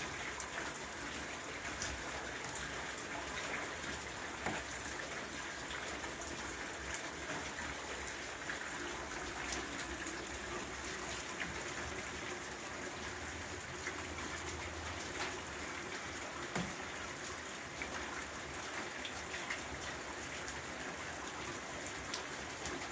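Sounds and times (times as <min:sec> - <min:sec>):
steady rain on standing water: 0:00.0 - 0:22.9.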